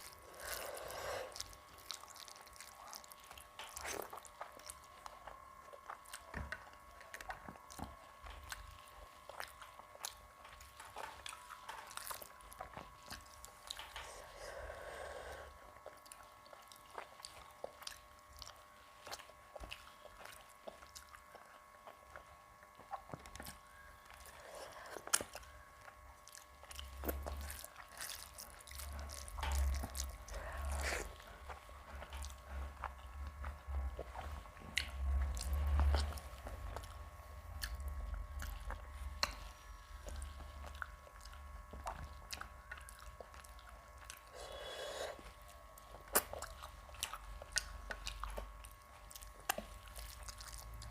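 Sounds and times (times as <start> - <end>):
faint steady hum: 0.0 - 50.9
person chewing food: 0.0 - 50.9.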